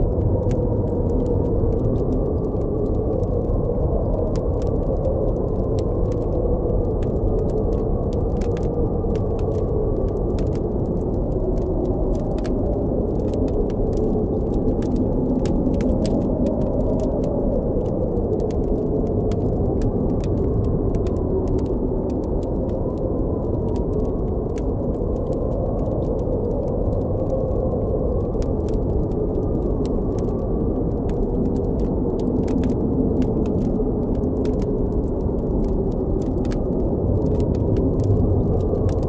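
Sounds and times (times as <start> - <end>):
campfire crackling: 0.0 - 39.0
howling blizzard wind: 0.0 - 39.0.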